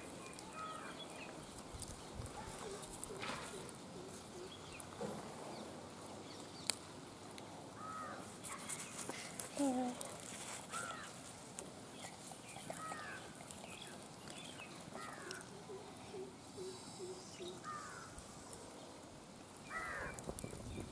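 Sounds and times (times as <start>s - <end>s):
birds calling: 0.0s - 6.8s, 7.8s - 9.4s, 10.7s - 11.2s, 11.9s - 19.0s, 19.6s - 20.9s.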